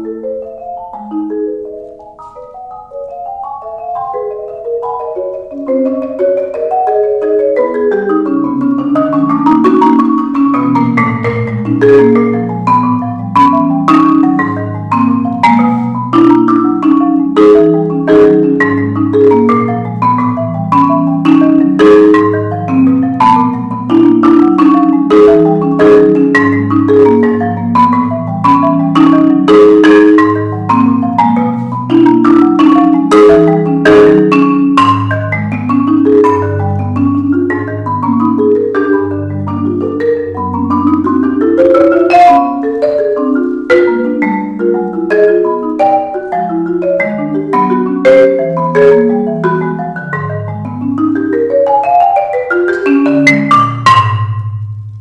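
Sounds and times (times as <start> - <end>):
marimba playing: 0.0 - 55.0.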